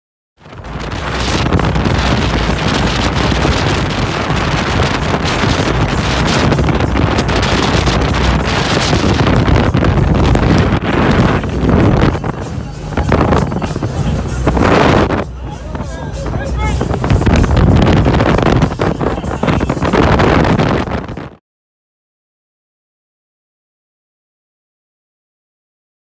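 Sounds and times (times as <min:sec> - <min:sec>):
wind buffeting microphone: 0:00.4 - 0:21.4.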